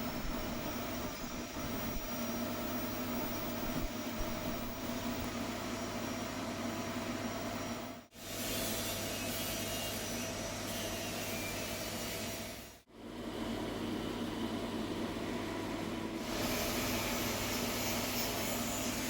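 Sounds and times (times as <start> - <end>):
pipe welding hiss and hum: 0.0 - 12.8, 16.2 - 19.0.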